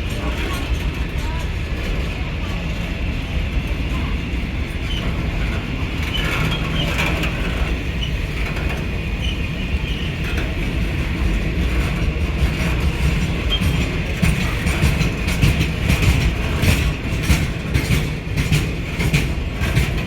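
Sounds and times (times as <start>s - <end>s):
train knocks: 0.0s - 20.0s
train wheels rumbling on rail: 0.0s - 20.0s.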